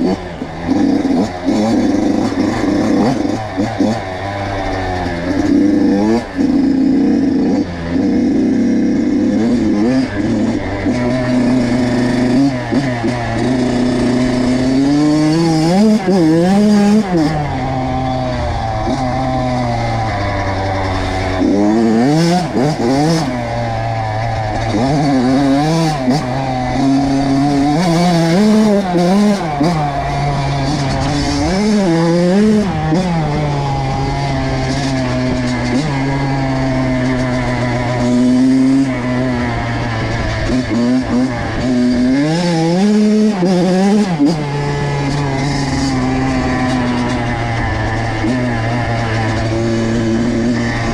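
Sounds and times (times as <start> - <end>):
dirt bike engine revving hard: 0.0 - 50.9.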